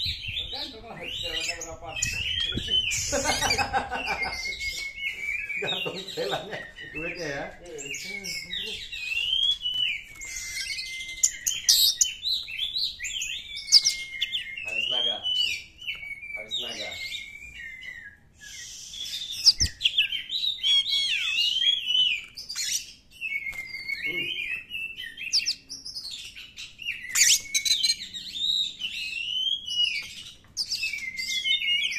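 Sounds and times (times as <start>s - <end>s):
magpie-robin singing whistles: 0.0s - 31.9s.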